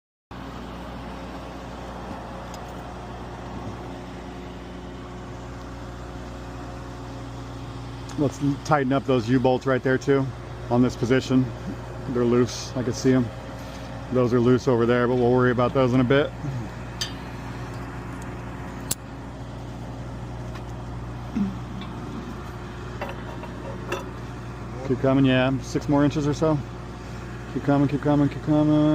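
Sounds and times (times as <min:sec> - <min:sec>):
truck engine idling: 0:00.4 - 0:28.9.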